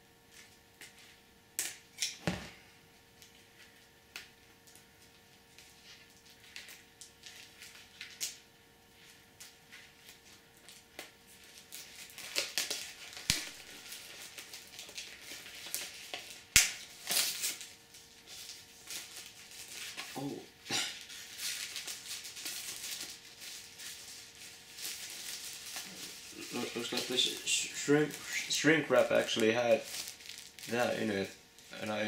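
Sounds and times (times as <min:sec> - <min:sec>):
plastic shrink wrap crinkling: 0:03.2 - 0:32.0.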